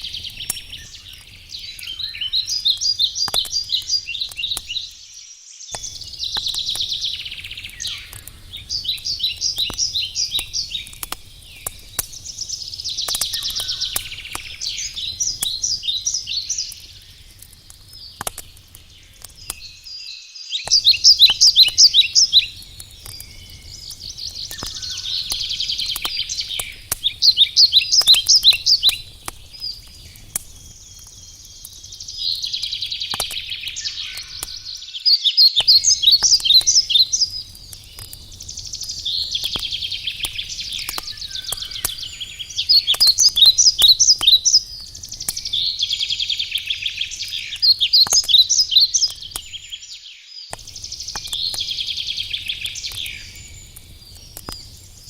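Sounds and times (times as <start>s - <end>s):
songbird trilling: 0.0s - 5.1s, 5.7s - 11.0s, 11.6s - 17.2s, 19.4s - 30.2s, 32.0s - 37.4s, 38.7s - 53.6s
campfire crackling and popping: 0.0s - 55.0s.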